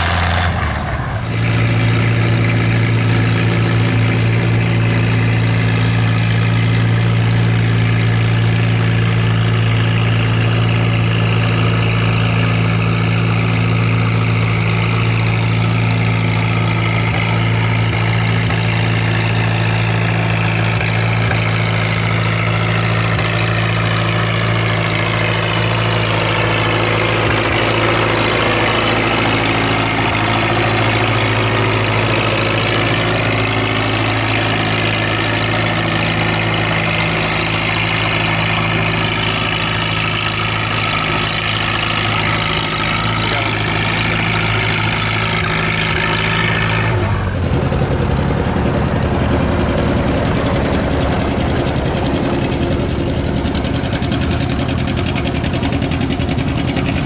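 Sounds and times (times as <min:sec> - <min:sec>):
higher-pitched engine: 0:00.0 - 0:57.0
tractor engine idling: 0:00.0 - 0:57.0.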